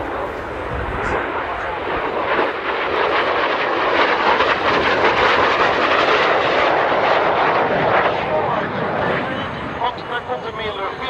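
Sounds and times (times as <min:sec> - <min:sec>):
jet passing overhead: 0:00.0 - 0:11.0.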